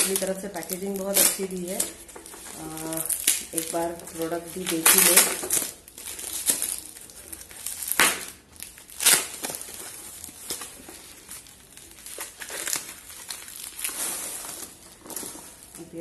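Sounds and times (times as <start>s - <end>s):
plastic packaging crinkling: 0.0s - 16.0s
plastic ripping: 0.0s - 16.0s.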